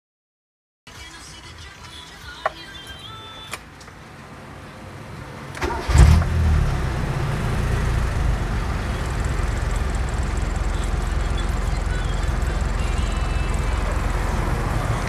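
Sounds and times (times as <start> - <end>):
car engine starting and idling: 0.9 - 15.0.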